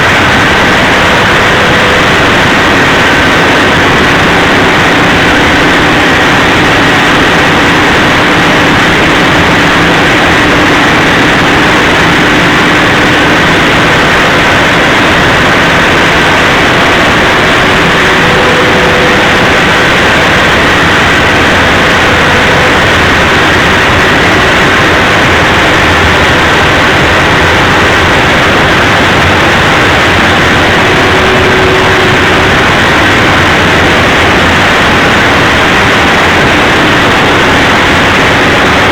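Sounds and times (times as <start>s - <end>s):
diesel generator engines droning: 0.0s - 38.9s.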